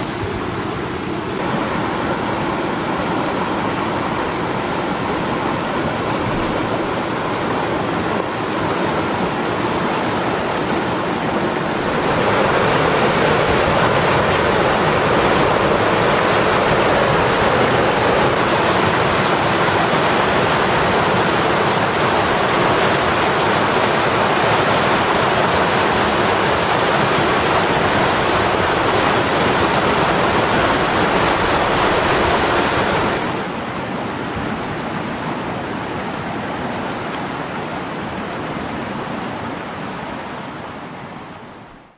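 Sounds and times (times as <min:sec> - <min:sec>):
floodwater rushing over rocks: 0:00.0 - 0:41.7.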